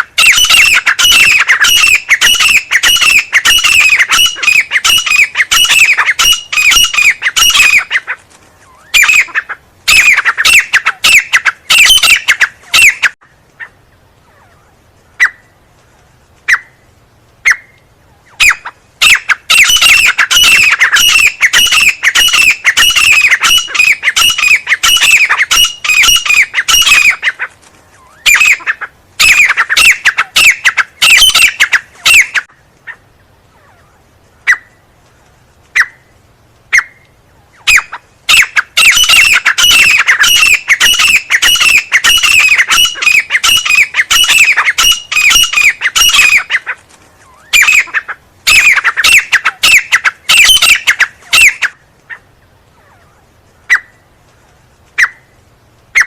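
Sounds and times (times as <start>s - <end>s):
francolin calling: 0.0s - 15.6s, 16.4s - 34.9s, 35.7s - 54.1s.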